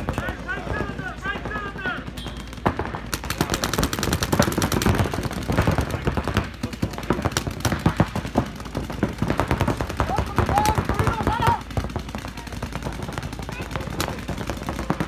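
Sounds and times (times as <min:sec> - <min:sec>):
paintball markers firing rapidly: 0:00.0 - 0:15.0.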